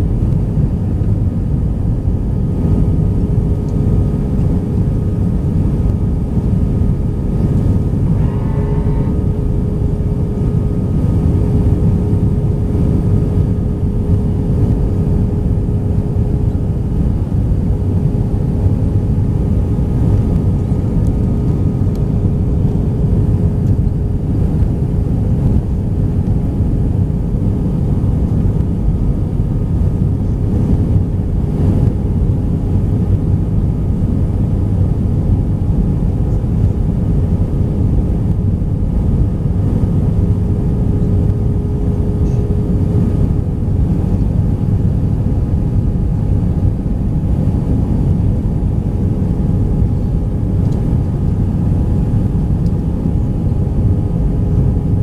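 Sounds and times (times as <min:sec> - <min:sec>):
airplane cabin engine rumble: 0:00.0 - 0:55.0
thin steady hum: 0:00.0 - 0:55.0.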